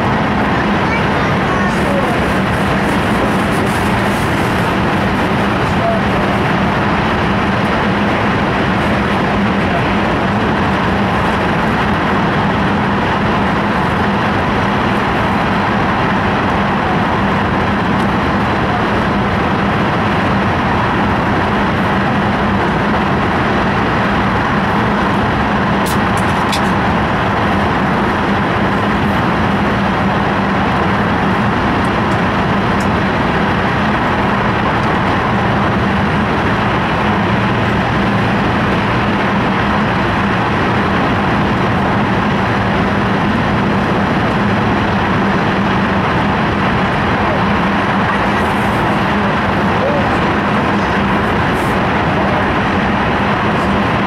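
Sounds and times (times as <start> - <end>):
train cabin rush: 0.0 - 54.0.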